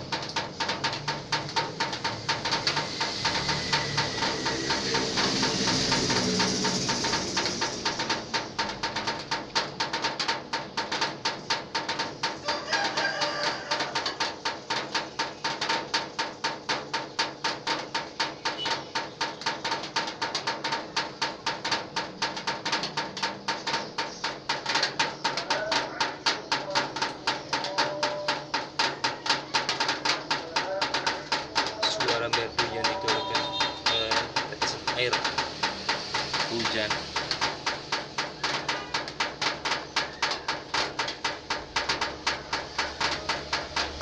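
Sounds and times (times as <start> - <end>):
water drips on metal sheet: 0.0 - 44.0.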